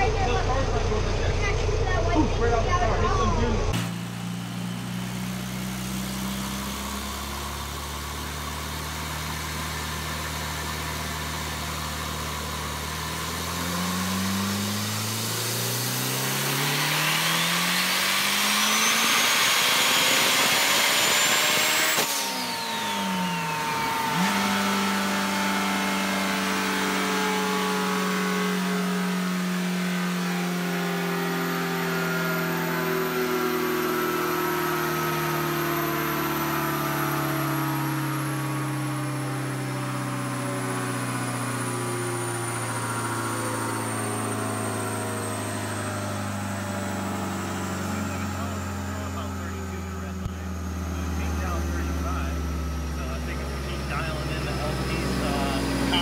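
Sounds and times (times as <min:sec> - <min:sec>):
engine revving then idling: 0:00.0 - 0:56.0
high turbo whine: 0:00.0 - 0:56.0.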